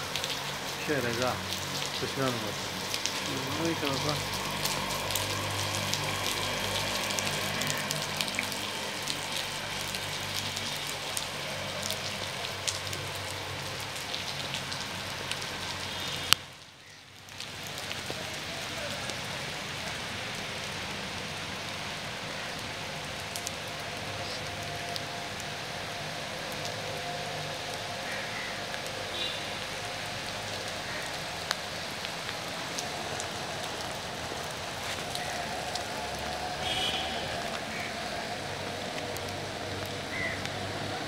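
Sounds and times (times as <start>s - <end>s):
rain falling steadily: 0.0s - 41.0s.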